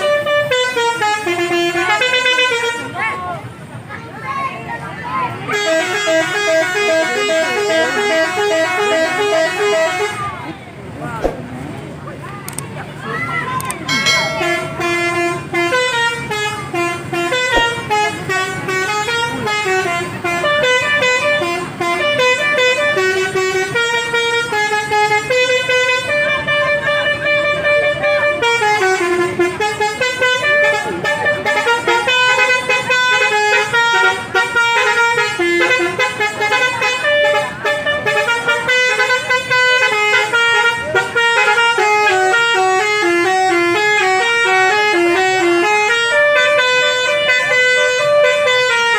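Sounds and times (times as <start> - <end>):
bus musical horn melody: 0.0 - 3.1, 5.4 - 10.4, 13.6 - 48.9.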